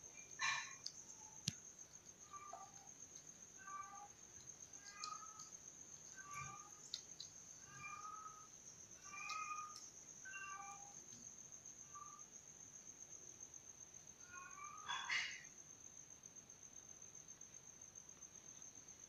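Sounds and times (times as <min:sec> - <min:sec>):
cricket trill: 0:00.0 - 0:19.0.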